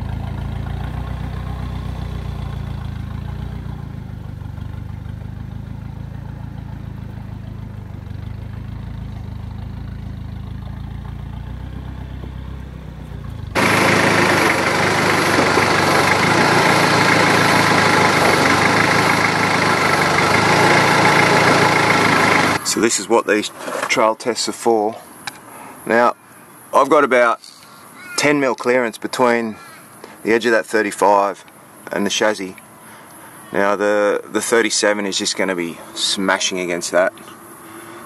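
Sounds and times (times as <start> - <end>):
diesel engine low rumble: 0.0 - 27.8, 29.1 - 38.0.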